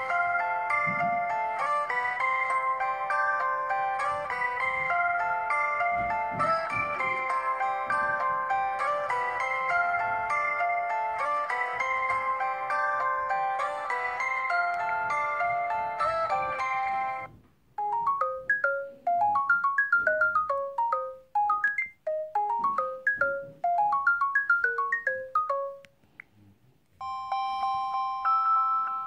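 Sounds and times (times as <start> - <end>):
bell-like ringtone: 0.0 - 25.9, 27.0 - 29.0
chordal ringtone: 0.0 - 25.9, 27.0 - 29.0
ringtone of hopping short notes: 0.0 - 25.9, 27.0 - 29.0.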